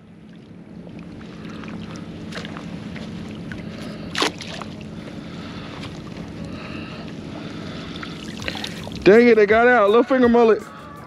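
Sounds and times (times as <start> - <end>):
water sloshing and lapping: 0.0 - 9.7.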